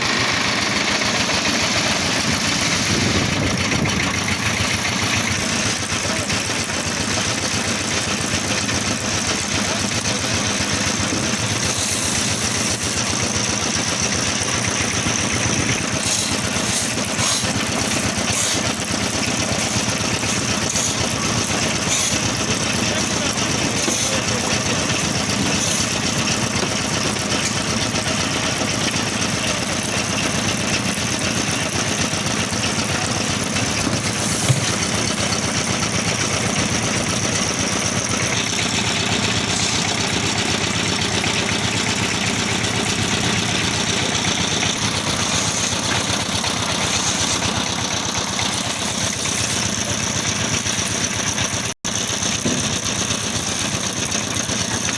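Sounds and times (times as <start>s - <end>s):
pump engine running: 0.0s - 54.9s.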